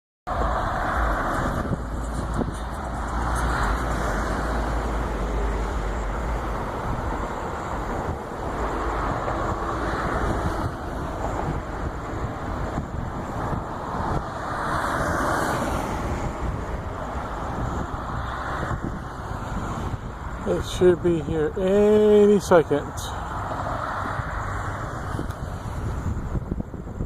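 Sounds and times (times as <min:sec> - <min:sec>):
cars passing: 0:00.3 - 0:27.0
steady low traffic rumble: 0:00.3 - 0:27.0.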